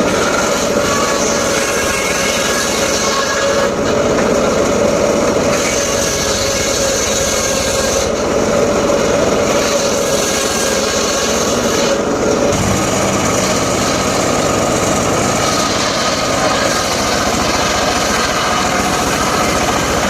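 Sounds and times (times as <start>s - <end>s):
circular saw cutting timber: 0.0s - 20.0s.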